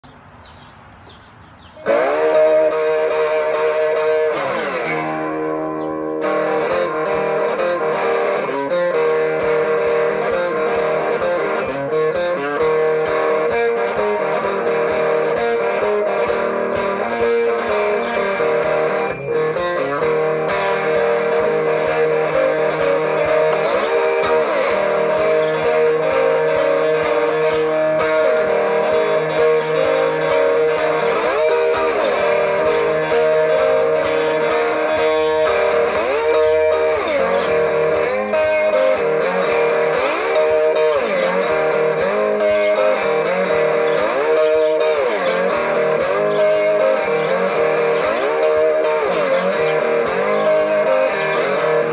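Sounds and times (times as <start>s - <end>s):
electric guitar with bent notes: 0.0s - 51.9s.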